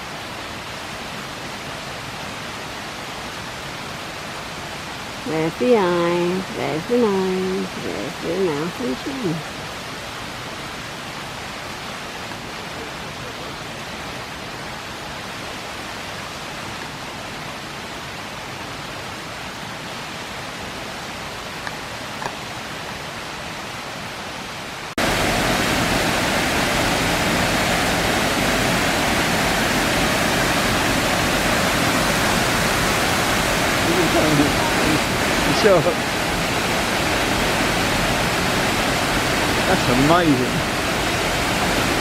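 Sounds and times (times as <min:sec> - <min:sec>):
river and waterfall rushing: 0:00.0 - 0:42.0.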